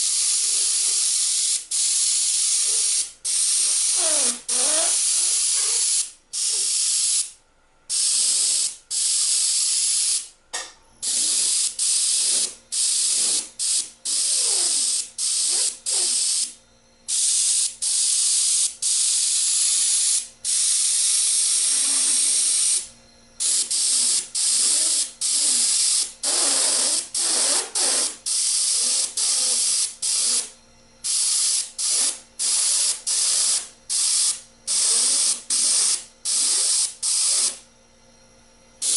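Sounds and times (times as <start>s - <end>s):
airbrush spraying hiss: 0.0s - 7.3s, 7.9s - 10.3s, 11.0s - 30.5s, 31.1s - 37.6s.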